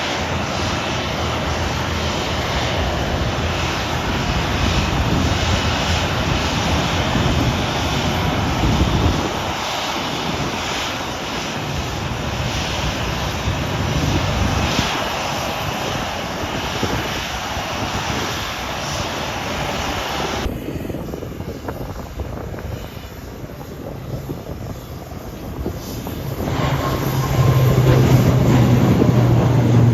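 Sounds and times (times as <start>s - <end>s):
airliner engine rush: 0.0s - 29.9s.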